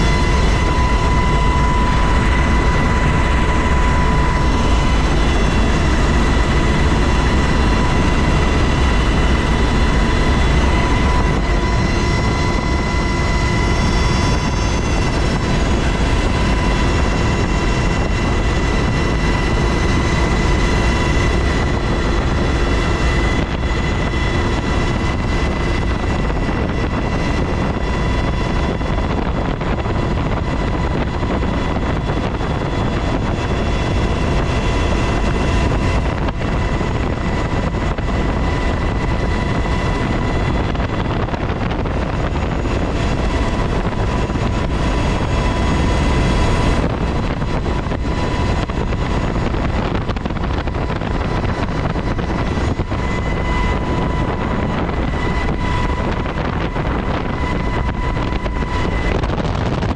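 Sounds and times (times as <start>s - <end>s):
helicopter engines and rotors: 0.0s - 59.9s
high whine tones: 0.0s - 59.9s.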